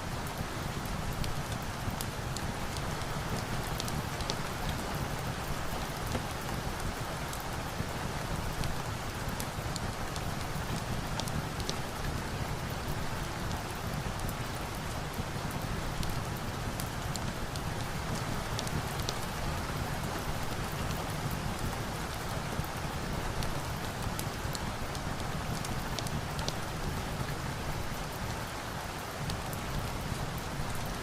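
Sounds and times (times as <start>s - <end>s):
steady rain hiss: 0.0s - 31.0s
log fire crackles: 0.1s - 31.0s.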